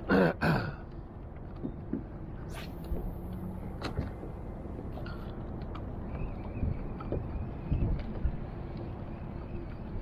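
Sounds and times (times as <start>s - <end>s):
wind rumbling on microphone: 1.0s - 10.0s.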